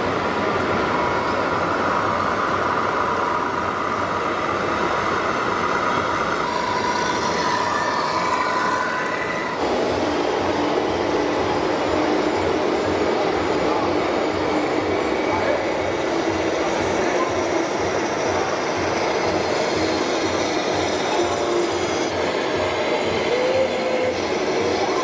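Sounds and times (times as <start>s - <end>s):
model truck electric whine: 0.0s - 25.0s
noisy hum: 0.0s - 25.0s.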